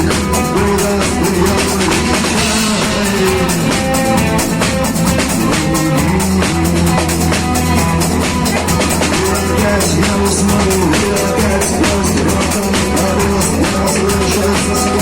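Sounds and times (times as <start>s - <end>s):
drum kit beat: 0.0s - 15.0s
low bass line: 0.0s - 15.0s.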